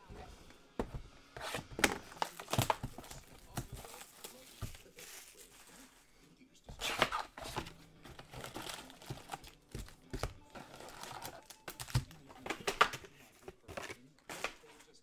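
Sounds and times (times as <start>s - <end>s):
wrapper crinkling: 2.0s - 6.1s, 6.8s - 15.0s.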